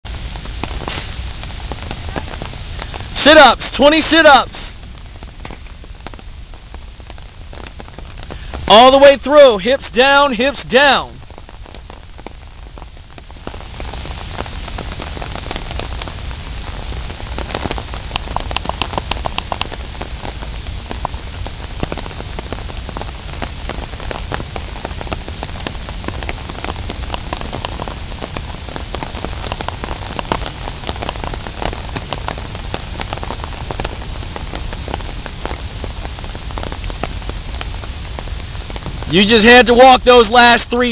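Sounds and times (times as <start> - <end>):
rain falling: 0.0 - 40.9
raindrops ticking: 0.1 - 40.9.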